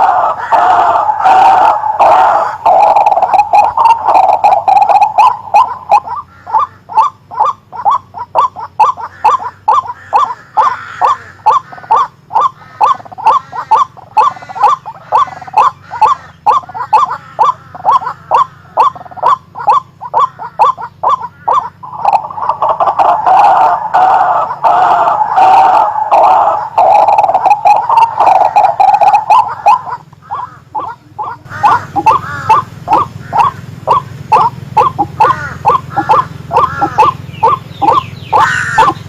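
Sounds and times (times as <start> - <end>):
bird calling harsh notes: 0.0 - 39.0.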